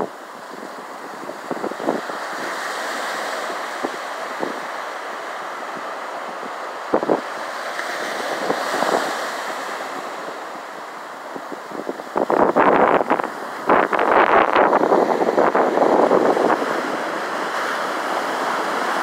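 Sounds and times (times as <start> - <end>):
wind buffeting microphone: 0.0 - 4.8, 5.6 - 7.4, 8.0 - 19.0
ocean surf on beach: 0.0 - 19.0.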